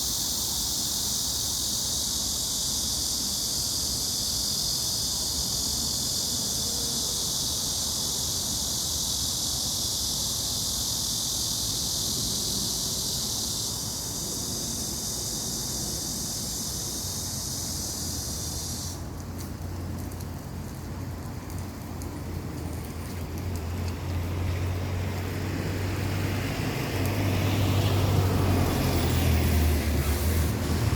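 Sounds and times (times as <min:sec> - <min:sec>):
insects chorus: 0:00.0 - 0:30.9.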